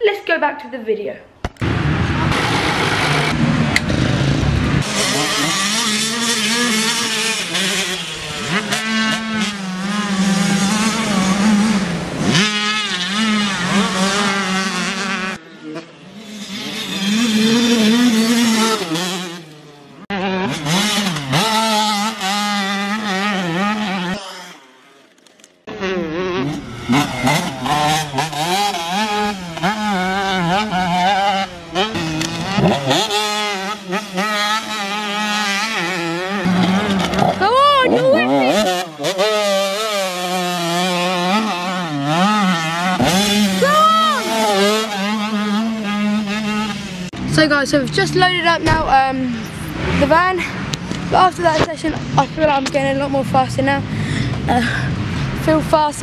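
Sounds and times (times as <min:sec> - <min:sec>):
motocross bike engine revving: 0:01.6 - 0:56.0.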